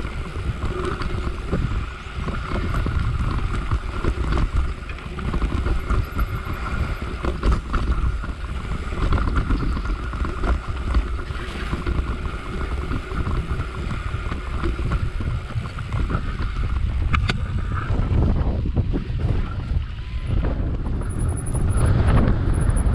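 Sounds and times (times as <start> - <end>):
bike tyres rumbling over bumps: 0.0 - 22.9
wind buffeting microphone: 0.0 - 22.9.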